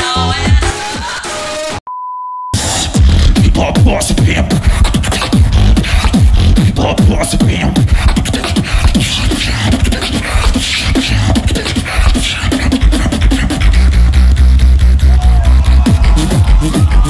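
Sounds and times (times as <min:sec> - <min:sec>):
beatboxing into a microphone: 0:02.6 - 0:17.0
heavy held bass: 0:02.6 - 0:17.0.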